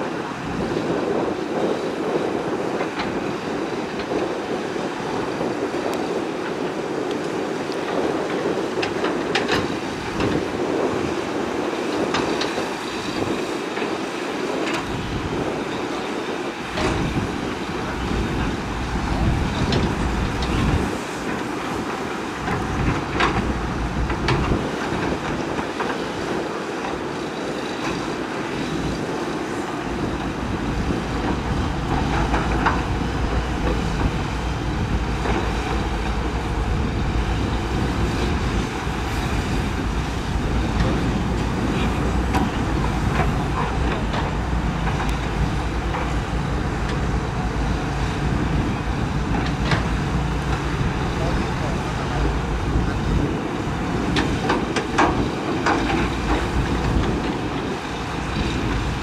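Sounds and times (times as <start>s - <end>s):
excavator diesel engines running: 0.0s - 59.0s.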